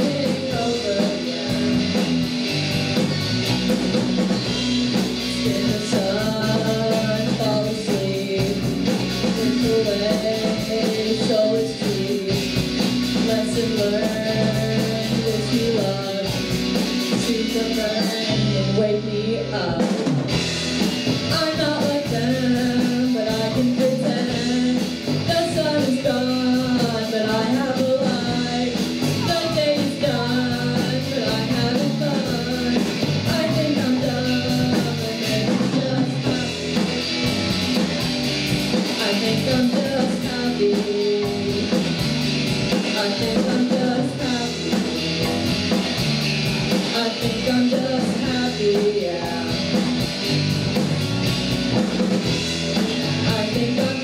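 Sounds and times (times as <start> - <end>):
lead vocal singing: 0.0 - 3.0, 5.0 - 20.2, 21.1 - 37.2, 38.7 - 46.0, 46.6 - 50.0, 52.0 - 54.0
bass guitar: 0.0 - 54.0
drum kit: 0.0 - 54.0
electric guitar: 0.0 - 54.0.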